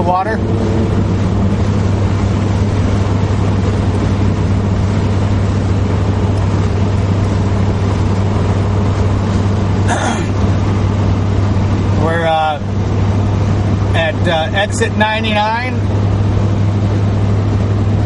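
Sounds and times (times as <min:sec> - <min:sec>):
car interior road drone: 0:00.0 - 0:18.0.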